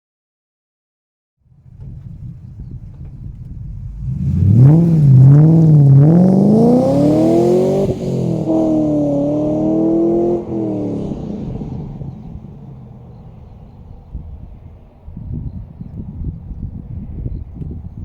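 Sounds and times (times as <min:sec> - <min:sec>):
car engine idling and revving: 0:01.4 - 0:17.9.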